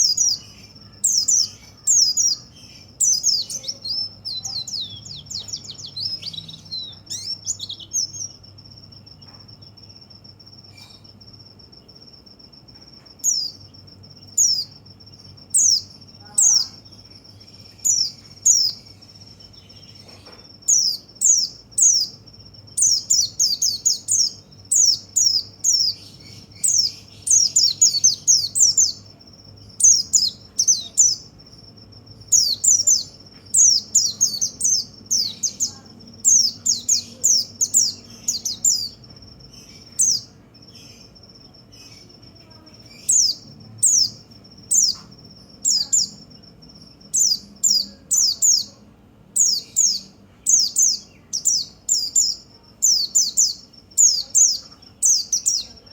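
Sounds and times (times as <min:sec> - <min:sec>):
bird chirping song: 0:00.0 - 0:55.9.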